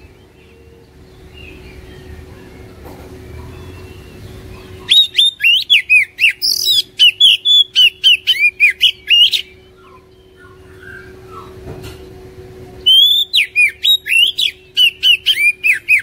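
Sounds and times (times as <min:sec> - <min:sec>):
bird singing whistled notes: 0:00.0 - 0:11.6, 0:12.8 - 0:16.0.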